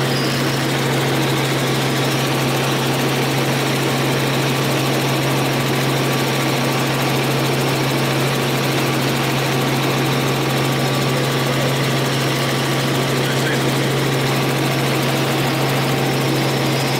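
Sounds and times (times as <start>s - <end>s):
helicopter engine and rotor drone: 0.0s - 16.9s.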